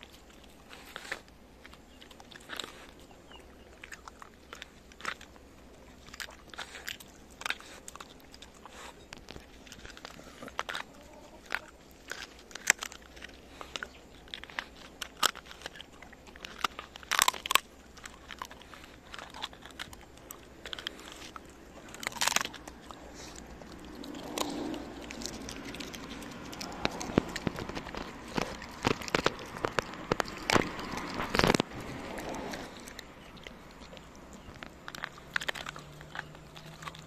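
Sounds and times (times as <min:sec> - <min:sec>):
bones cracking: 0:00.0 - 0:37.0
dog gnawing and crunching bones: 0:00.0 - 0:37.0.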